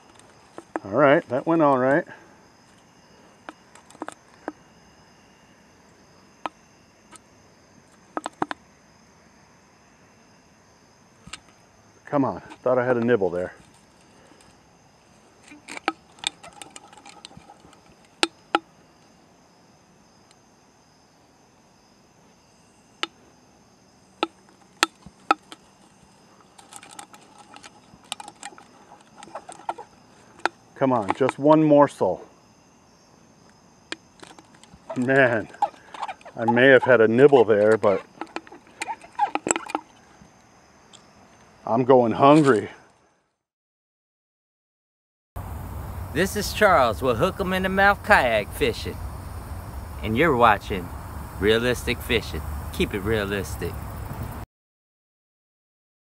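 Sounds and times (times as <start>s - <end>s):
insects trilling: 0.0s - 43.2s, 45.4s - 54.4s
crickets chirring: 0.0s - 43.3s, 45.4s - 54.4s.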